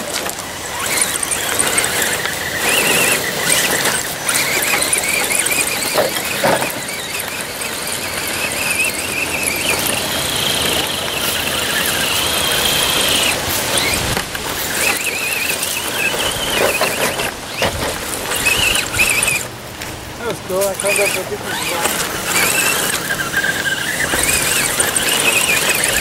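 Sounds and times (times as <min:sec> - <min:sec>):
toy car electric motor whining: 0:00.0 - 0:19.6, 0:20.2 - 0:26.0.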